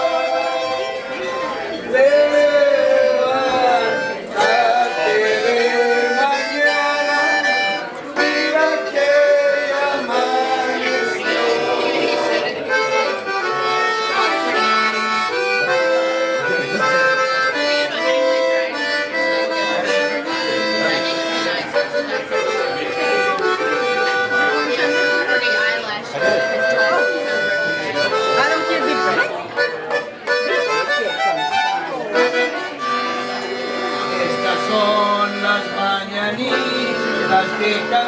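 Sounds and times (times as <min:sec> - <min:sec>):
accordion music: 0:00.0 - 0:38.0.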